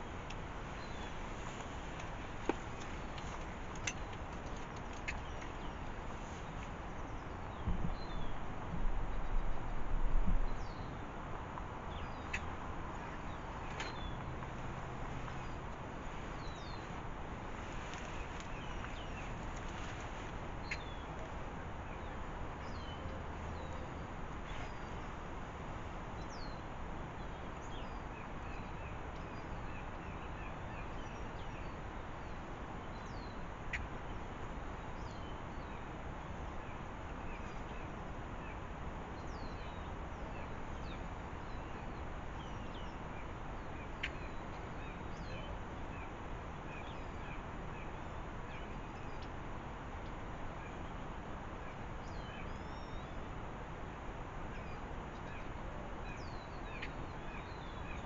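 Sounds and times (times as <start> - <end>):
songbirds chirping: 0.0 - 58.0
steady background hiss: 0.0 - 58.0.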